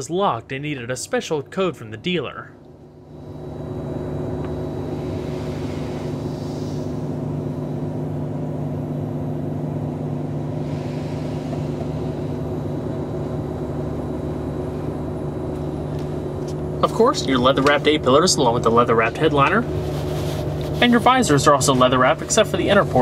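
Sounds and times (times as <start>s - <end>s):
car engine idling: 1.2s - 23.0s.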